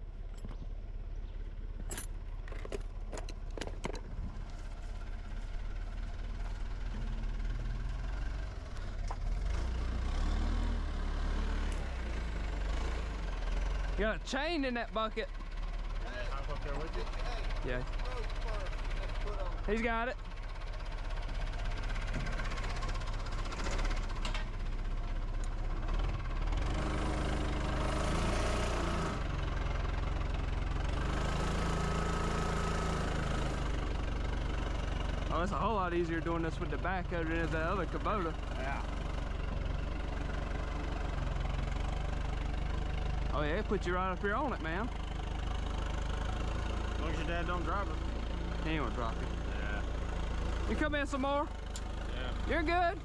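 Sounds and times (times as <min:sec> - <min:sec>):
backhoe engine: 0:00.0 - 0:53.0.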